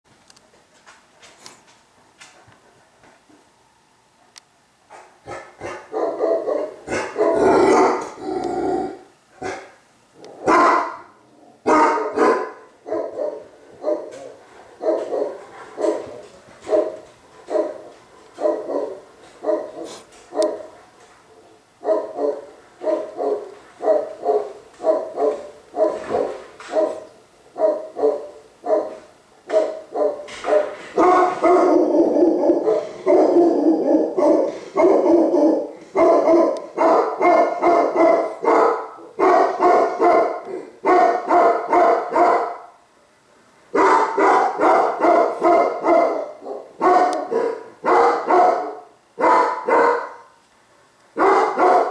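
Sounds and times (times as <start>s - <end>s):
dog barking: 4.9s - 8.2s, 9.4s - 9.8s, 10.4s - 20.8s, 21.8s - 42.8s, 43.7s - 50.4s, 51.2s - 51.9s.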